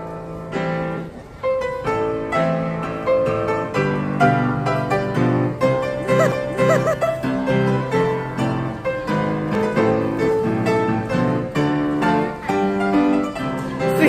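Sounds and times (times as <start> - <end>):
grand piano playing: 0.0 - 14.0.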